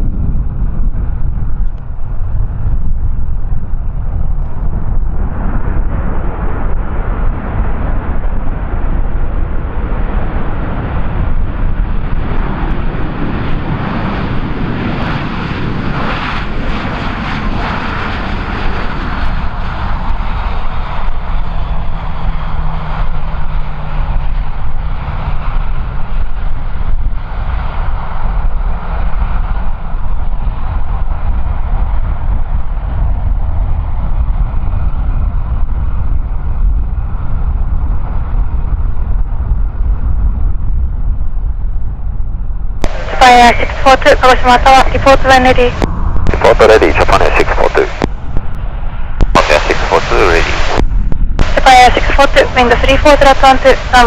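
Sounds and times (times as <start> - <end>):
airliner engines passing: 0.0 - 54.0
wind buffeting microphone: 0.0 - 54.0.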